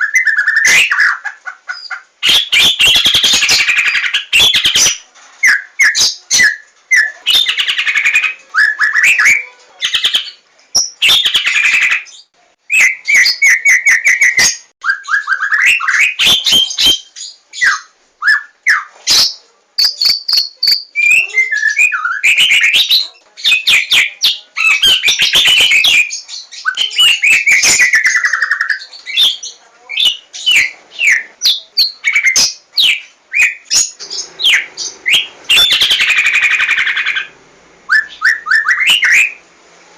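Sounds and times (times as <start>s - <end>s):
shama singing whistles and trills: 1.8s - 29.4s, 30.0s - 39.4s.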